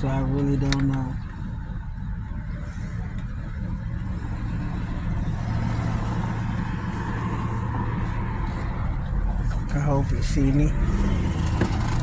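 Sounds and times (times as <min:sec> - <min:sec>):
traffic engine hum and road noise: 0:00.0 - 0:12.0.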